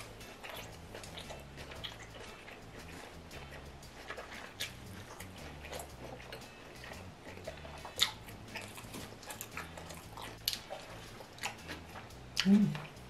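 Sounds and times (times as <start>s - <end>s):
person chewing with wet clicks: 0.0s - 13.0s.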